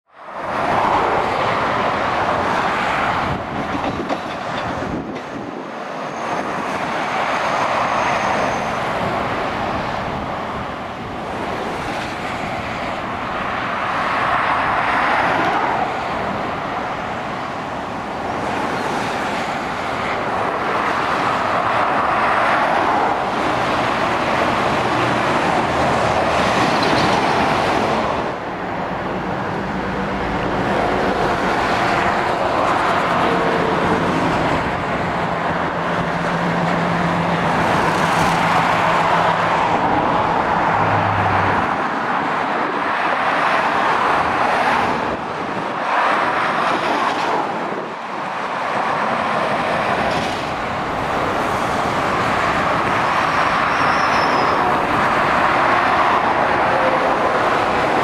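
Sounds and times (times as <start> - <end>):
motorway traffic passing: 0.1 - 58.0.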